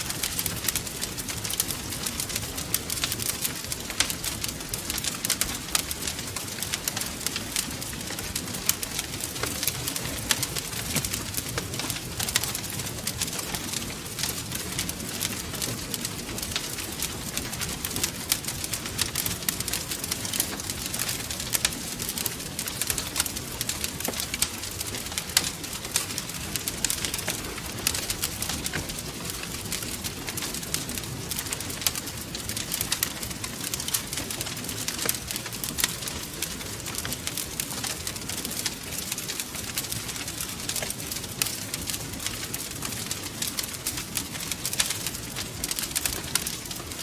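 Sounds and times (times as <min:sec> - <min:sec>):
flames rushing: 0:00.0 - 0:47.0
wood fire pops and snaps: 0:00.0 - 0:47.0.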